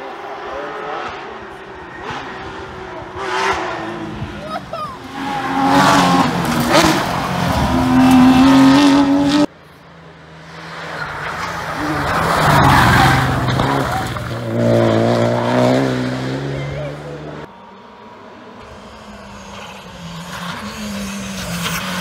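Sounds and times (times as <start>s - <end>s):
rally car approaching and revving: 0.0s - 22.0s.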